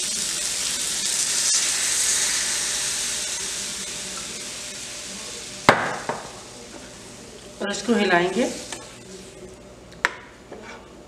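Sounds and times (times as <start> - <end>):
water hissing in a hot pan: 0.0 - 9.4.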